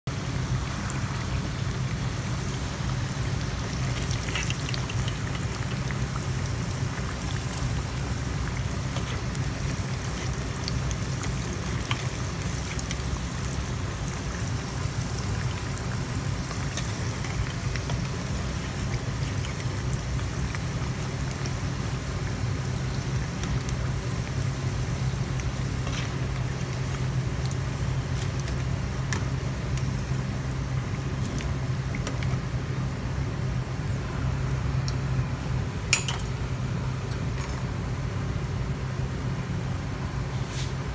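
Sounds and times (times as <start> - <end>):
frying in hot oil sizzling: 0.1 - 35.2.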